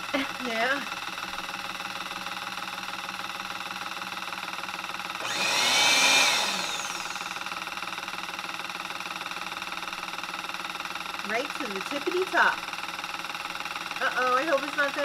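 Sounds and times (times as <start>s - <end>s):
appliance motor humming and whirring: 0.0s - 15.0s.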